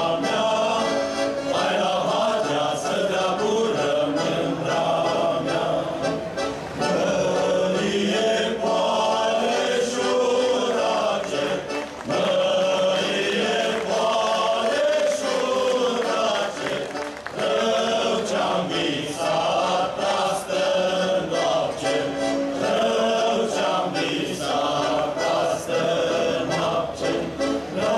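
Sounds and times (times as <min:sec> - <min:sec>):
group singing folk song: 0:00.0 - 0:27.9.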